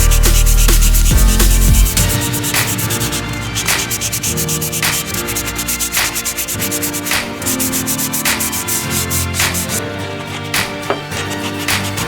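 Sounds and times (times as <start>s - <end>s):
background music with held notes: 0.0s - 12.0s
rubbing strokes on wood: 0.0s - 12.0s.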